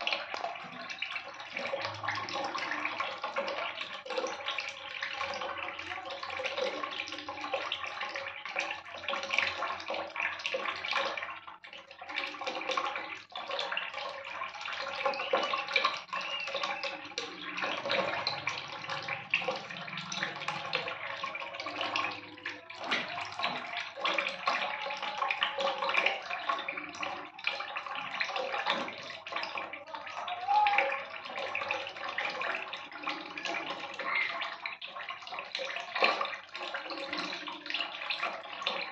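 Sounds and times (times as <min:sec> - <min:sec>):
water splashing into basin: 0:00.0 - 0:38.9.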